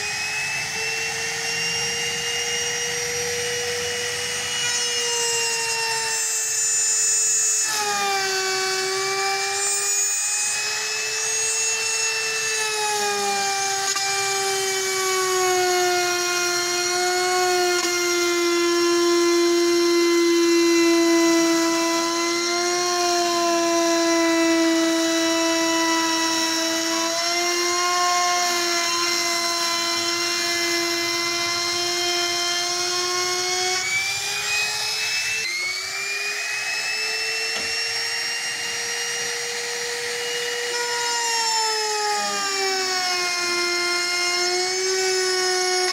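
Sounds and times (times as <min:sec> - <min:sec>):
trim router whining: 0:00.0 - 0:45.9.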